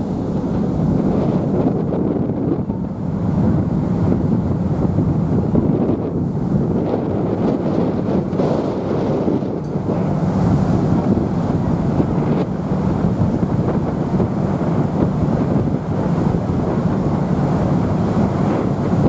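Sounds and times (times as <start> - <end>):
low rumble: 0.0 - 19.0
wind on microphone: 0.0 - 19.0.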